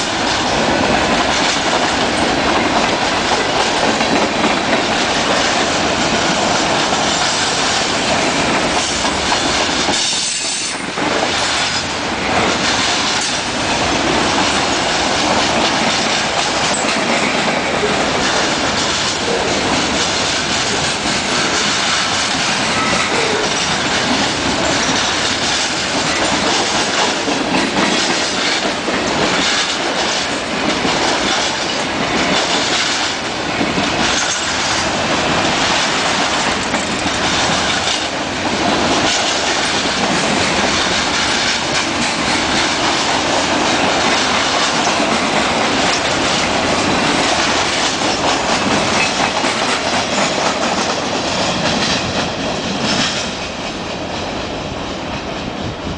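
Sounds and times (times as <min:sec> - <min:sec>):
wheels clacking over rail joints: 0:00.0 - 0:55.8
freight train cars rolling: 0:00.0 - 0:55.9.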